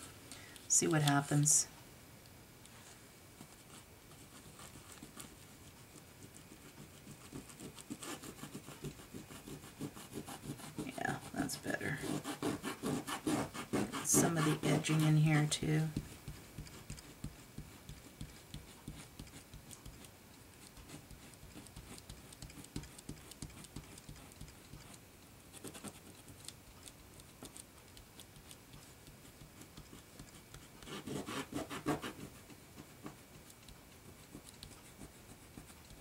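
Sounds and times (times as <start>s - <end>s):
cloth rubbing over plastic stencil: 2.7s - 25.0s, 25.6s - 36.0s.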